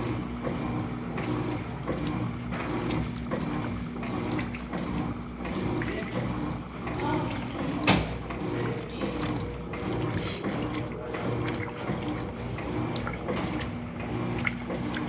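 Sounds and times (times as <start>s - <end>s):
washing machine motor hum: 0.0s - 15.0s
water sloshing: 0.0s - 15.0s.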